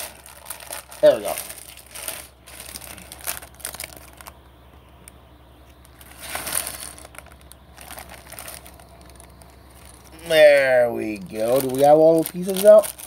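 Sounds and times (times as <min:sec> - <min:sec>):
plastic bag rustling: 0:00.0 - 0:04.4, 0:05.7 - 0:13.0.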